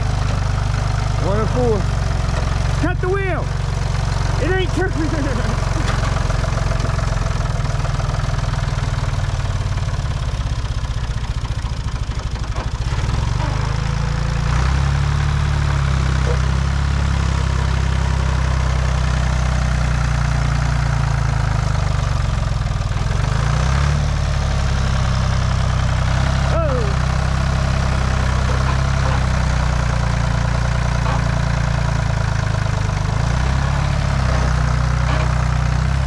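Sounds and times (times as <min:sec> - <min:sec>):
tractor engine under load: 0:00.0 - 0:36.0.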